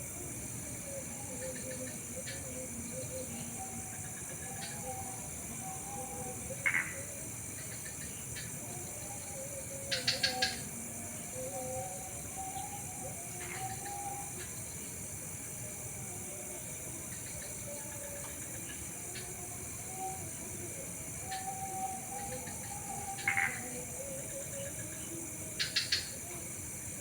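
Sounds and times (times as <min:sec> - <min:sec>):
night insects chorus: 0:00.0 - 0:27.0.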